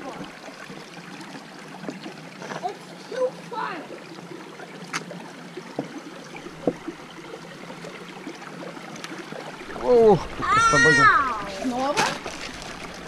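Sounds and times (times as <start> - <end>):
stream trickling over rocks: 0.0 - 13.0.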